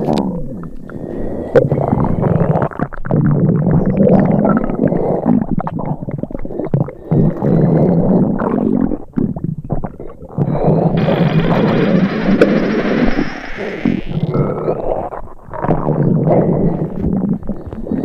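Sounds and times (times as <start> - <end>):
stomach gurgling growl: 0.0 - 18.0.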